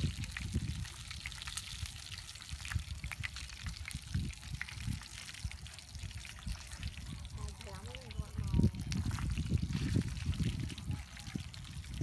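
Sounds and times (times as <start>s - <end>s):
fish sizzling in hot oil: 0.0s - 12.0s
oil popping and crackling: 0.0s - 12.0s.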